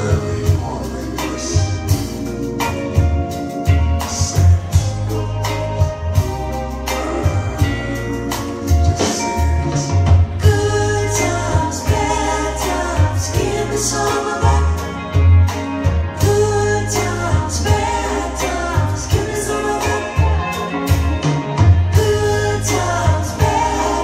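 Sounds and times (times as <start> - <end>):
bass line: 0.0 - 24.0
song with singing over speakers: 0.0 - 24.0.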